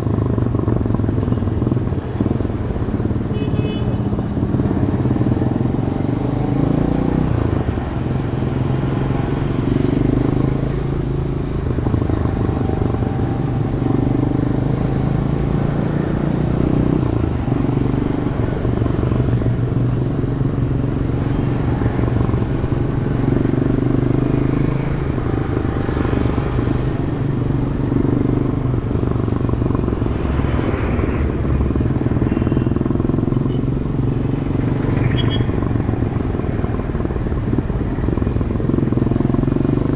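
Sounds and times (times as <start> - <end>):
motorcycle engine: 0.0 - 39.9
road and traffic noise: 0.0 - 39.9.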